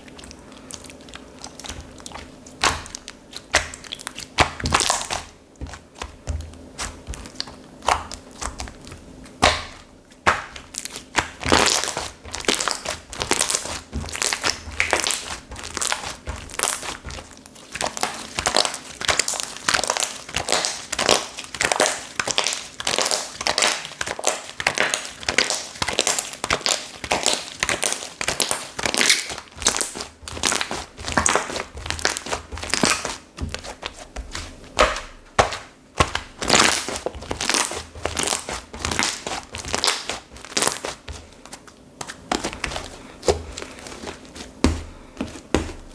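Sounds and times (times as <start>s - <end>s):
slime crackling and popping: 0.2s - 41.5s.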